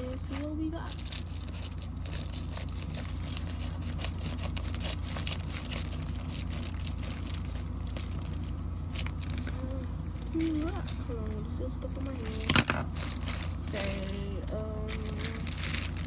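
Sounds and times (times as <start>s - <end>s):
packaging crinkling and tearing: 0.0s - 16.0s
steady low hum: 0.0s - 16.0s.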